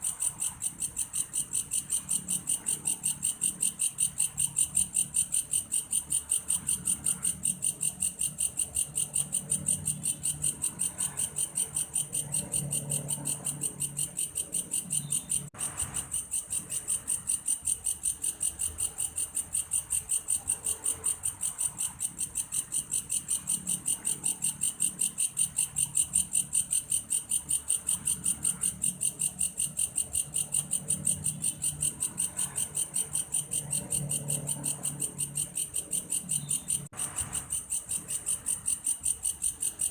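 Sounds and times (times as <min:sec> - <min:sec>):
grasshopper pulsing chirp: 0:00.0 - 0:39.9.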